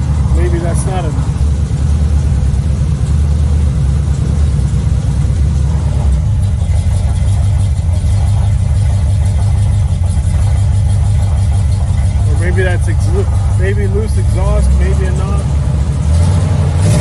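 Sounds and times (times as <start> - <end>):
car engine idling: 0.0 - 17.0
engine knocking: 0.0 - 17.0.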